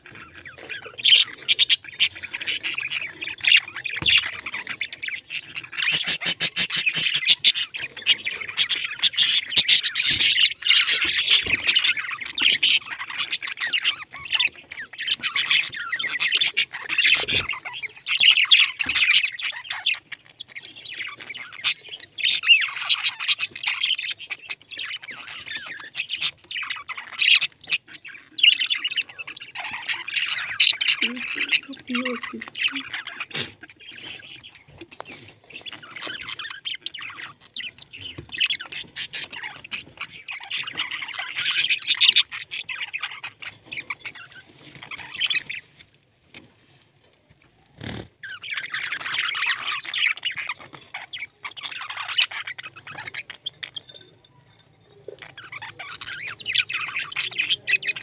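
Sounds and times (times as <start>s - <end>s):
budgerigars chattering: 0.0s - 45.8s, 47.8s - 54.1s, 55.0s - 58.0s.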